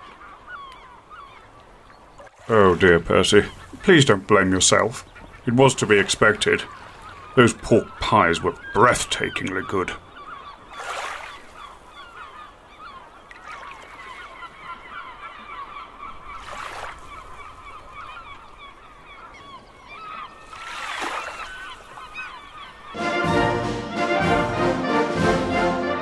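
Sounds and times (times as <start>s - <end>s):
seagulls calling and squawking: 0.0s - 26.0s.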